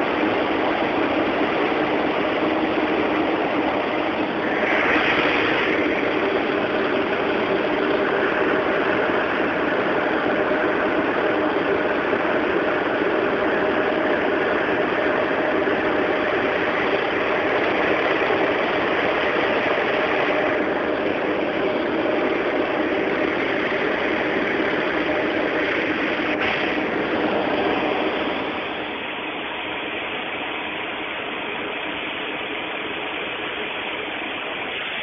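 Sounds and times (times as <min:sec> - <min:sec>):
propeller and wind noise: 0:00.0 - 0:29.0
radial aircraft engine droning: 0:00.0 - 0:35.0.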